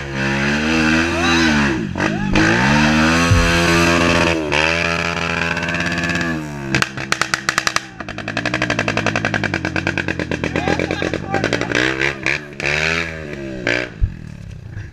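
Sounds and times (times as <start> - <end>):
dirt bike engine revving: 0.0 - 14.8.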